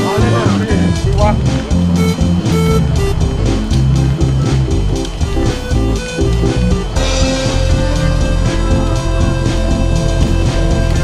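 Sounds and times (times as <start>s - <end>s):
band music with steady beat: 0.0s - 11.0s.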